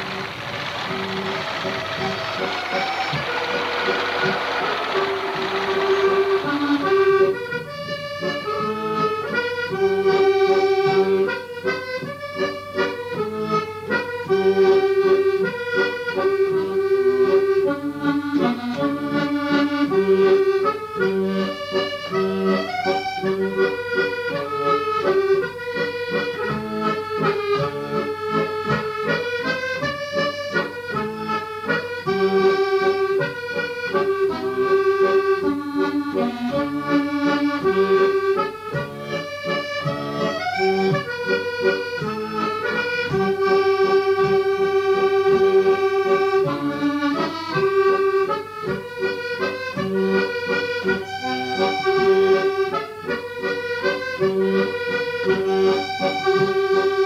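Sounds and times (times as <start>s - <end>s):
accordion music: 0.0s - 57.0s.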